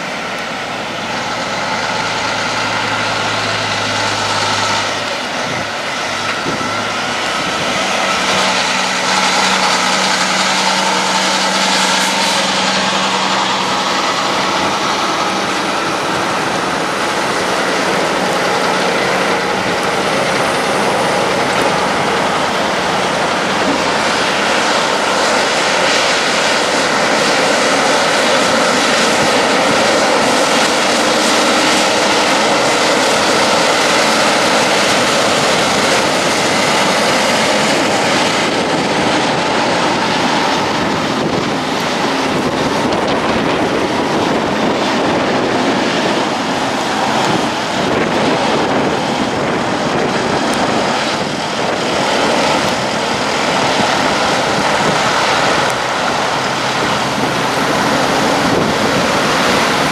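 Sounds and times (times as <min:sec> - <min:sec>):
truck diesel engines droning: 0:00.0 - 0:59.9
tyre and trailer noise: 0:00.0 - 0:59.9.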